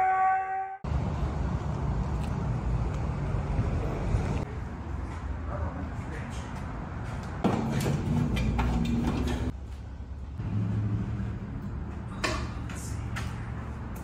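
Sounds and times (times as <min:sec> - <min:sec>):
road traffic rumble: 0:00.8 - 0:14.0.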